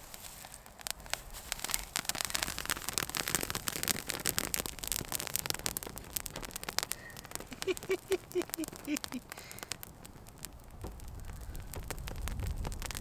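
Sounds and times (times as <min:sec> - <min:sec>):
dry wood crackling and scratching: 0:00.0 - 0:13.0.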